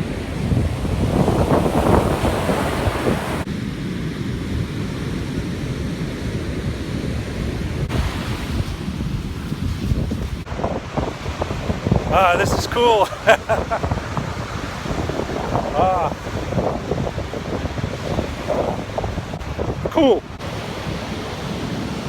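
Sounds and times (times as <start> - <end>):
ocean surf washing: 0.0 - 22.0
wind buffeting microphone: 0.0 - 22.0.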